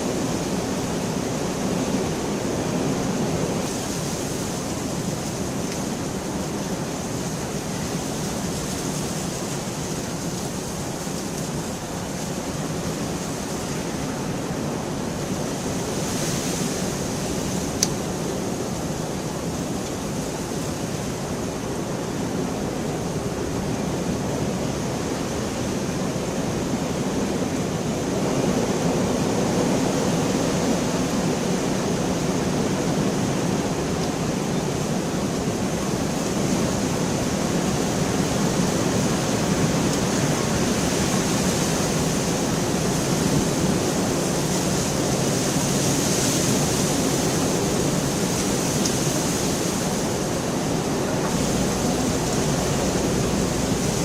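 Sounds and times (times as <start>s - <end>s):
dense rainfall: 0.0s - 54.0s.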